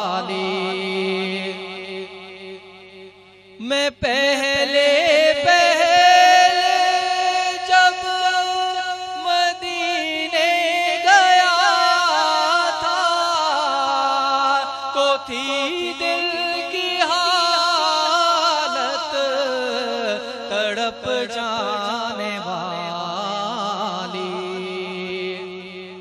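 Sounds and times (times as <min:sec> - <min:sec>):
man singing through loudspeakers: 0:00.0 - 0:26.0.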